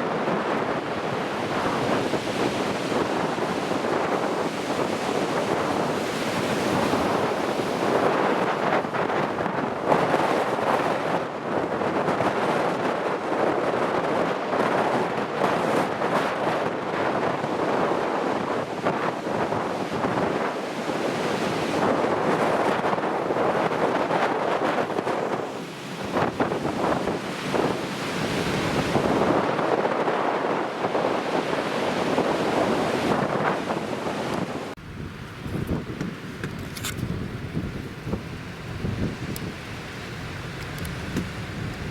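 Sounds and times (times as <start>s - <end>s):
heavy surf rushing: 0.0s - 41.9s
wind blowing across microphone: 0.0s - 41.9s.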